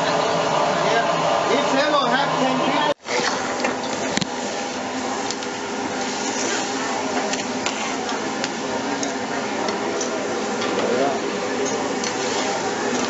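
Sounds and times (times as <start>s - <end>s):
diners chatter: 0.0s - 13.0s.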